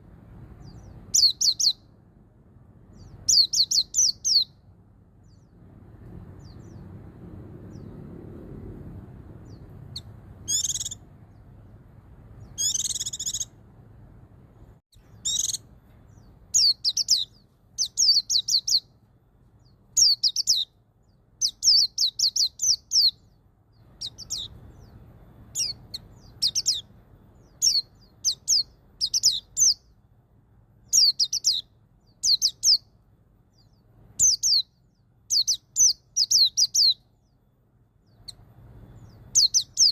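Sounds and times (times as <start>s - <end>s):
bird singing: 0.0s - 2.0s, 2.8s - 5.6s, 6.3s - 7.0s, 9.4s - 11.8s, 12.4s - 13.6s, 14.5s - 30.1s, 30.8s - 39.9s.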